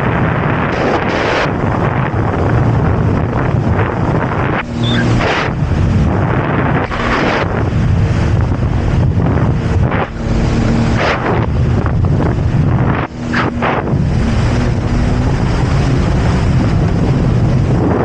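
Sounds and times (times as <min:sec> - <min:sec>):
hull splashing on waves: 0:00.0 - 0:17.8
jet ski engine running: 0:00.0 - 0:18.0
wind buffeting microphone: 0:00.0 - 0:18.0.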